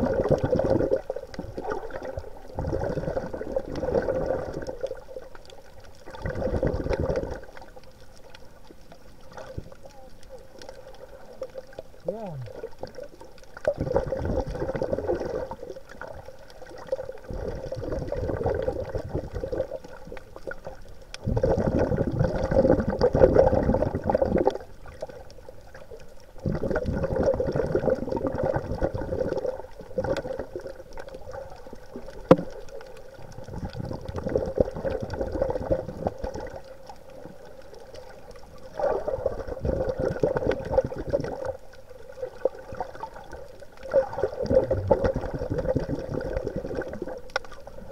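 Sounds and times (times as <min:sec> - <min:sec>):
muffled underwater water noise: 0:00.0 - 0:47.9.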